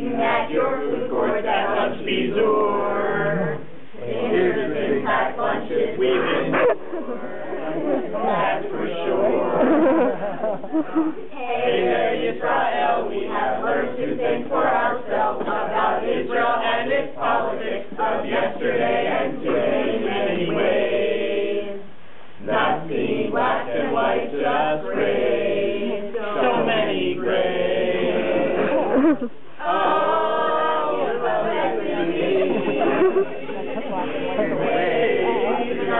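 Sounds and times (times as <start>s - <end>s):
group singing in unison: 0.0s - 10.1s, 11.4s - 35.9s.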